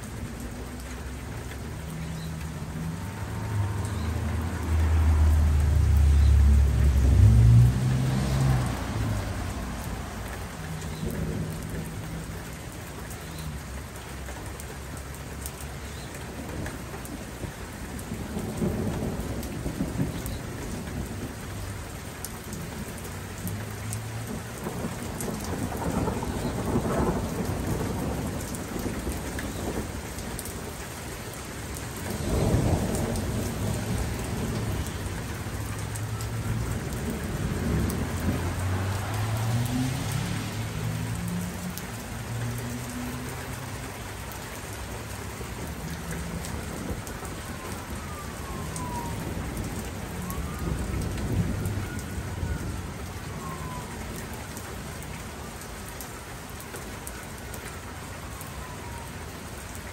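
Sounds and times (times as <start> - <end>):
raindrops tapping: 0.0 - 59.9
steady rain: 0.0 - 59.9
thunder rumbling: 0.1 - 12.4, 16.3 - 21.9, 22.5 - 54.9, 58.6 - 59.1.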